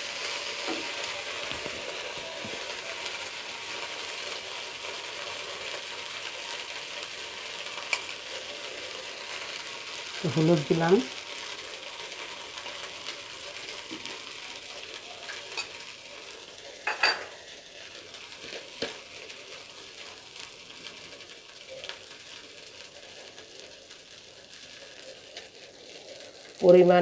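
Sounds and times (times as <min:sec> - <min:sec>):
rice and lentils sizzling in pot: 0:00.0 - 0:27.0.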